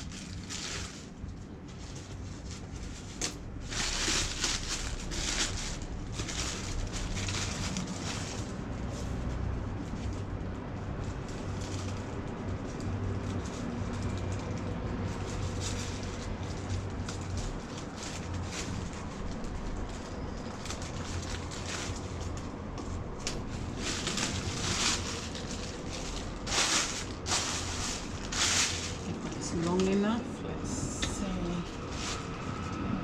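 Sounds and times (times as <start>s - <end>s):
plastic sheeting rustling and crinkling: 0.0s - 30.2s, 31.4s - 32.9s
steady low hum: 0.0s - 33.0s.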